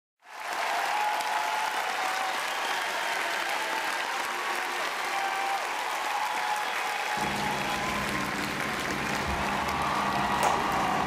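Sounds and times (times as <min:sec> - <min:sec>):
crowd applauding: 0:00.2 - 0:11.0.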